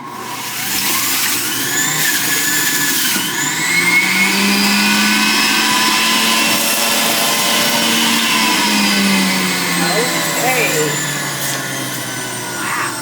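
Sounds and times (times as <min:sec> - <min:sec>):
juicer motor whine: 0:00.0 - 0:13.0.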